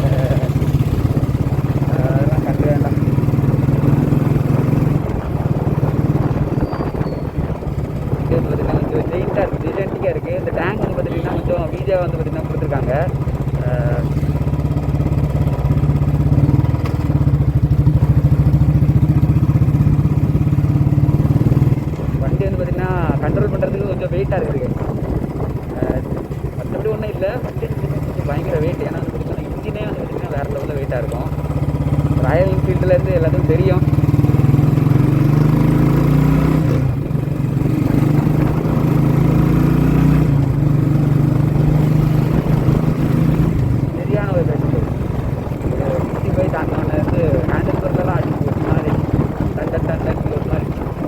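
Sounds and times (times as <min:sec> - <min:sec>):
motorcycle engine thumping: 0:00.0 - 0:51.0.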